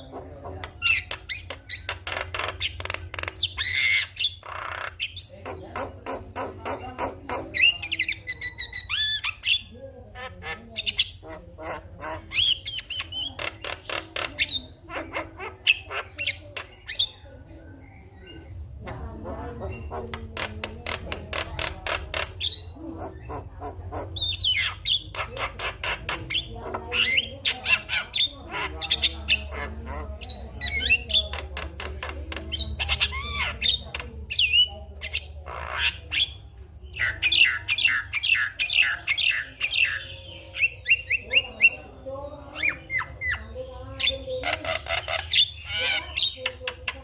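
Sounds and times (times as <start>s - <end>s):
myna bird chattering: 0.0s - 47.0s.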